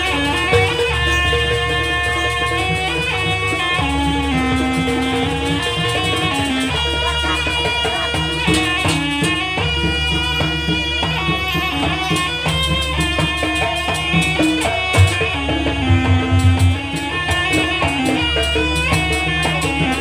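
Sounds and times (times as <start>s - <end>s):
folk music with drums and melody: 0.0s - 20.0s.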